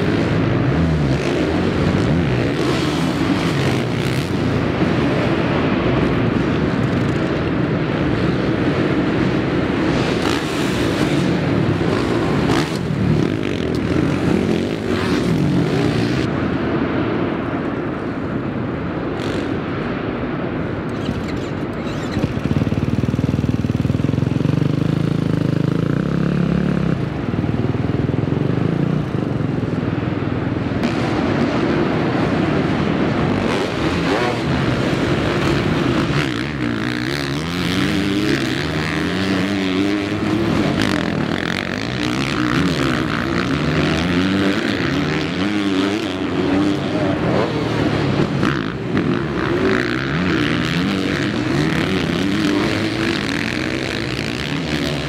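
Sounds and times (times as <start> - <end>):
motocross bikes revving: 0.0 - 16.8, 19.1 - 19.8, 20.9 - 29.8, 30.6 - 55.0.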